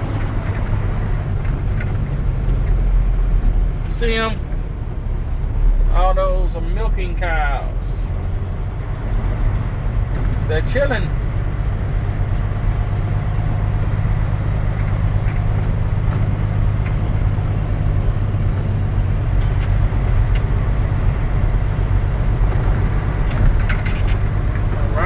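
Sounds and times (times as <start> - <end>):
diesel truck engine droning: 0.0 - 25.0.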